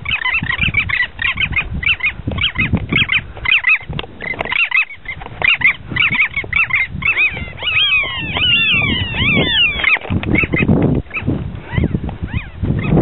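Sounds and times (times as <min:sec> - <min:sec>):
birds crying harshly: 0:00.0 - 0:13.0
microphone handling rumble: 0:00.0 - 0:13.0
wind on microphone: 0:00.0 - 0:13.0.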